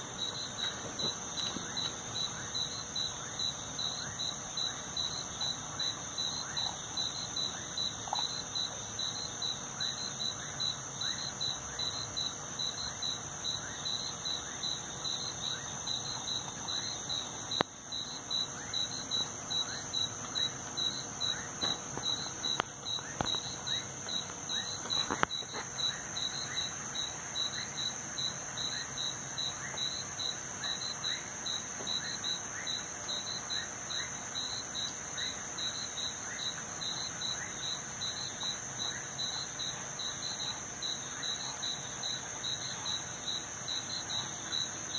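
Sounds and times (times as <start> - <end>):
insects droning: 0.0 - 44.9
pulsing cricket chirp: 0.0 - 44.9.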